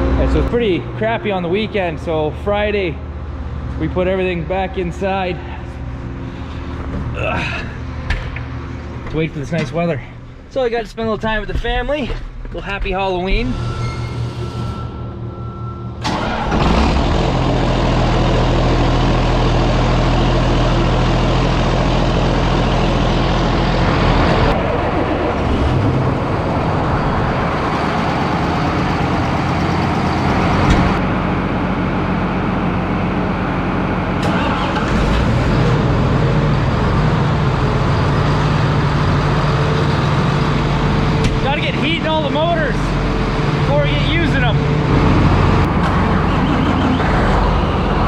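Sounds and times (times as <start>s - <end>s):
heavy vehicle engine running: 0.0s - 10.5s, 14.6s - 48.0s.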